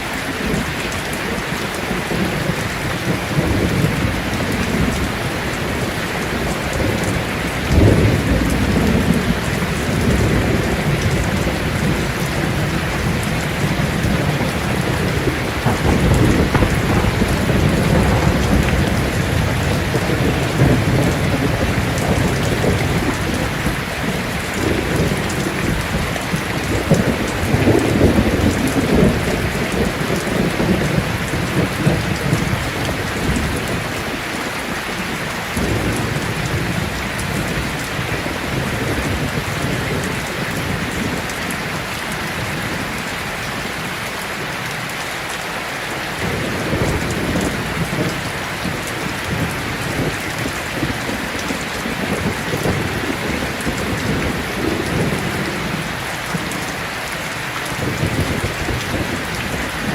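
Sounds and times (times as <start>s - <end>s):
heavy rain falling: 0.0s - 59.9s
low rolling thunder: 0.2s - 43.7s, 46.2s - 59.9s.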